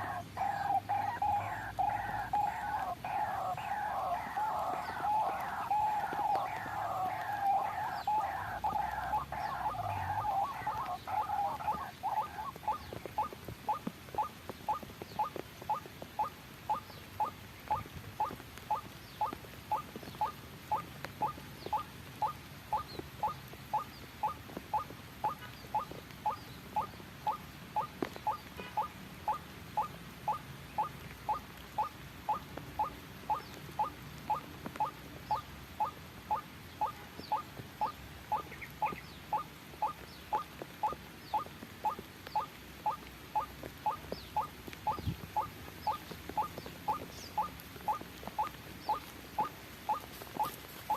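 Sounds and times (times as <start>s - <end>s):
bird harsh chattering calls: 0.0s - 50.9s.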